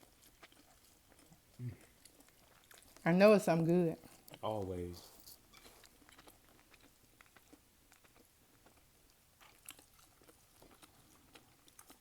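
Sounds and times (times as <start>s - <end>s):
chewing mouth clicks and smacks: 0.0s - 3.0s, 4.0s - 4.4s, 5.1s - 12.0s.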